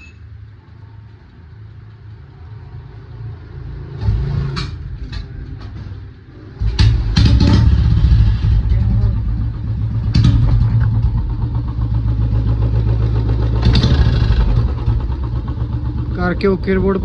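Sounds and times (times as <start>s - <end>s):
motorcycle engine starting and running: 1.6s - 17.0s.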